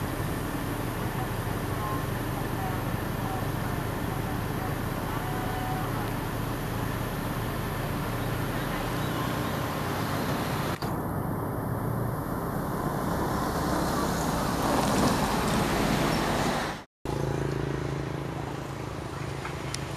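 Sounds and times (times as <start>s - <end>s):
outdoor background hum: 0.0s - 19.9s.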